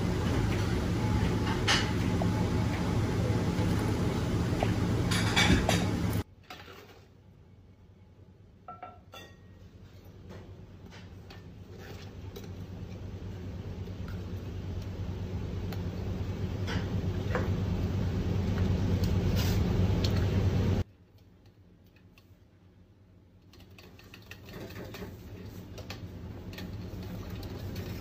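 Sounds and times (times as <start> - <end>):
kitchen hum: 0.0 - 28.0.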